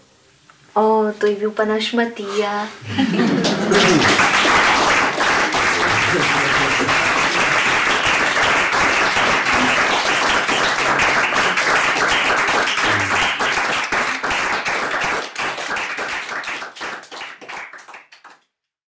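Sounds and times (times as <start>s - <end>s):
audience applauding: 3.0s - 18.4s.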